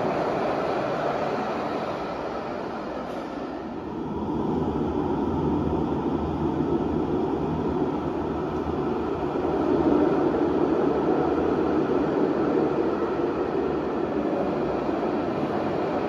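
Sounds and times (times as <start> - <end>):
low rumbling echoing in station: 0.0 - 16.0.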